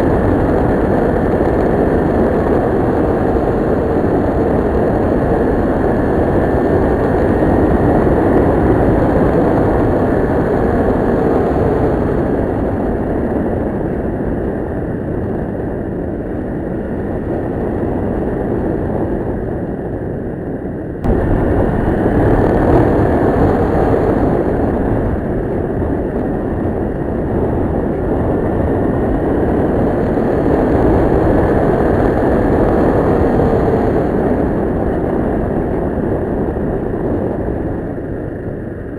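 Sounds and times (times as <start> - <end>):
heavy wind rush: 0.0 - 38.9.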